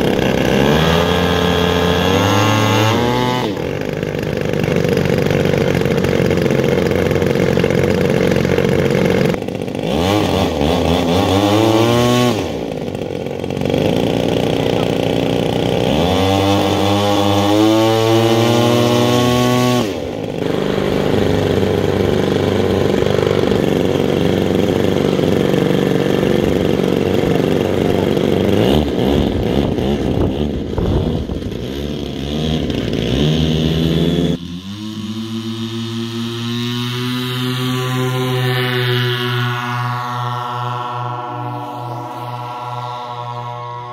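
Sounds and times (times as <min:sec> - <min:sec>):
model plane engines revving: 0:00.0 - 0:43.9.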